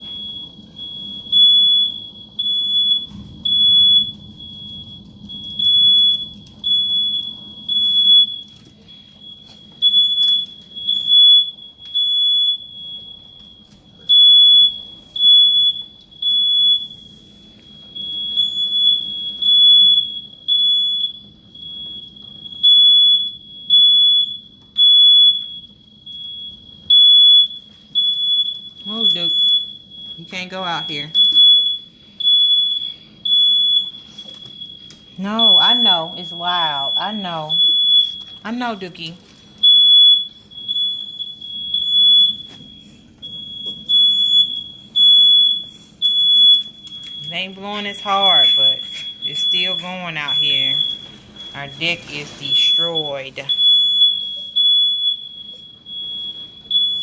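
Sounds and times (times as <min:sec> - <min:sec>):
electronic alarm beeping: 0:00.0 - 0:57.0.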